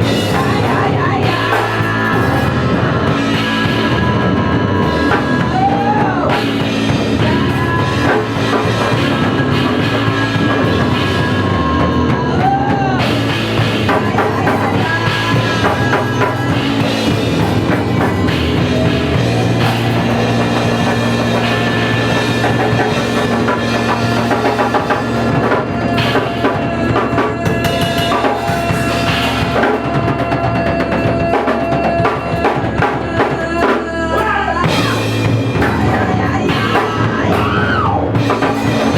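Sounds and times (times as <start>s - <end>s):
electric bass line: 0.0s - 38.9s
punk rock drum beat: 0.0s - 38.9s.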